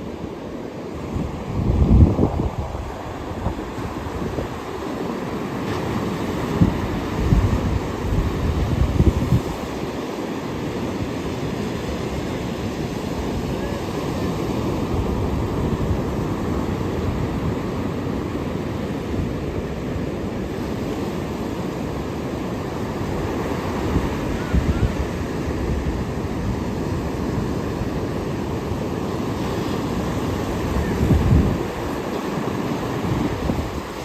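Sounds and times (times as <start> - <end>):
ocean surf washing on shore: 0.0 - 34.0
wind buffeting microphone: 0.9 - 34.0.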